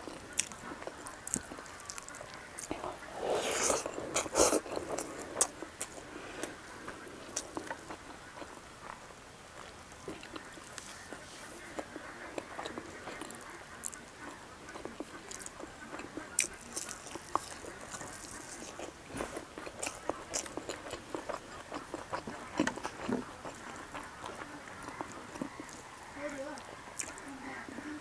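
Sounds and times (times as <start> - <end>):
person chewing with mouth clicks: 0.0 - 9.0, 9.6 - 25.9, 27.0 - 27.2.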